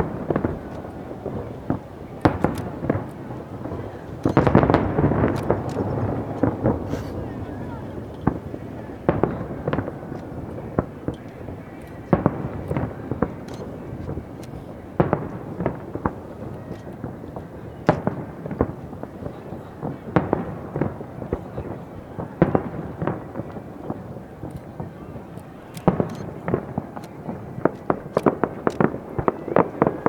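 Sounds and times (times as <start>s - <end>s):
fireworks booms and cracks: 0.0s - 30.0s.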